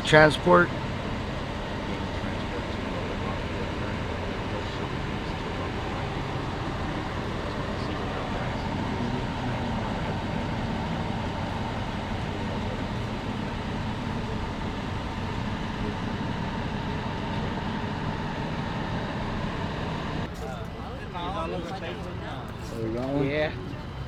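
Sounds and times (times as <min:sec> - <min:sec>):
vehicle motor rumble: 0:00.0 - 0:24.0.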